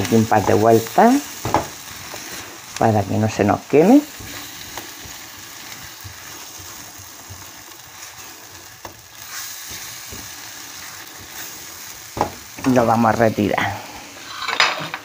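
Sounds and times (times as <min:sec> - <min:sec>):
sauce sizzling in a frying pan: 0:00.0 - 0:15.0
spatula scraping a pan: 0:00.4 - 0:02.7, 0:04.1 - 0:12.9, 0:13.6 - 0:15.0.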